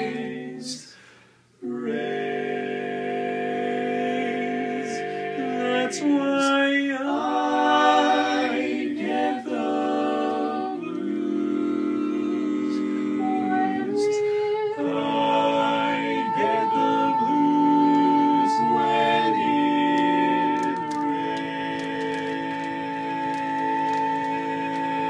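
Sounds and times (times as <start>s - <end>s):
men singing a cappella harmony: 0.0s - 1.0s, 1.6s - 25.0s.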